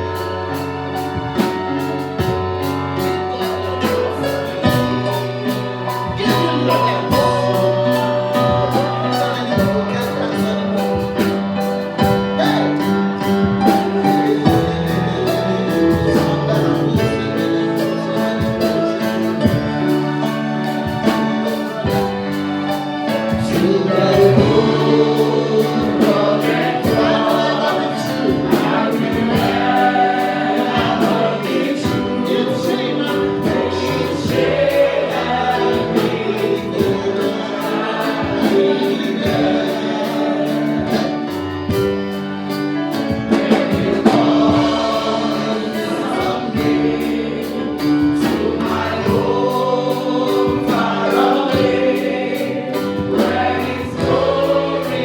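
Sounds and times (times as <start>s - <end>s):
group singing gospel song: 0.0s - 55.0s
instrumental accompaniment with beat: 0.0s - 55.0s.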